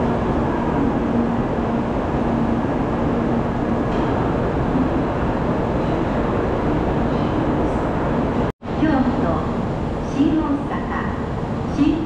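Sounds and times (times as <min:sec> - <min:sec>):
train platform hum: 0:00.0 - 0:12.0.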